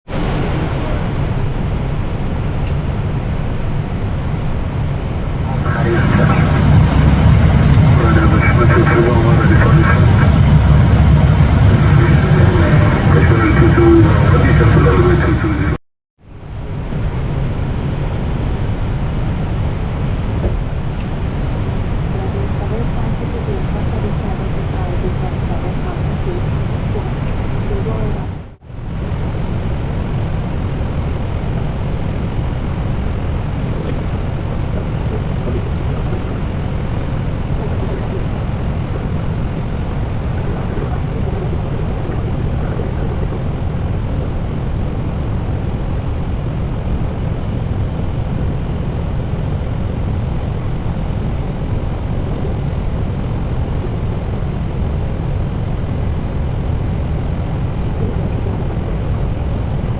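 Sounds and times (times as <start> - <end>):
airplane cockpit roar: 0.0 - 15.8, 16.4 - 59.9.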